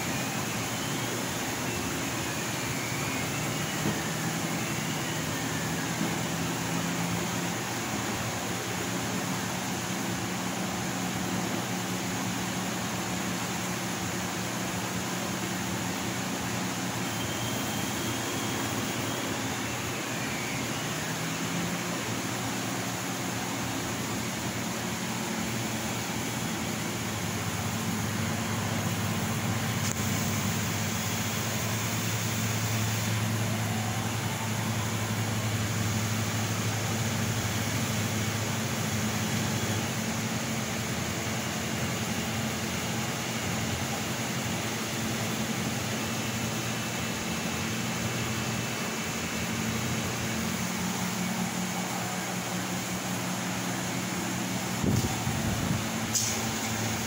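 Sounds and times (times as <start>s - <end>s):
laser cutter blowers whooshing: 0.0s - 57.0s.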